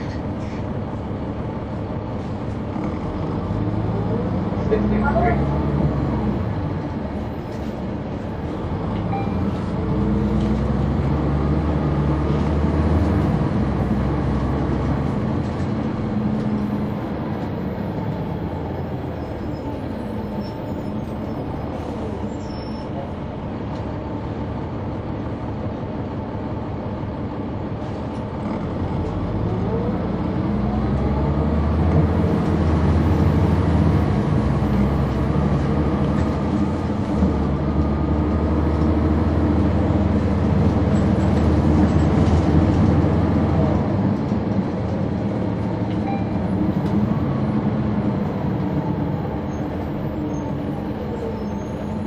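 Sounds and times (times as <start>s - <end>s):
bus diesel engine whining: 0.0s - 52.0s.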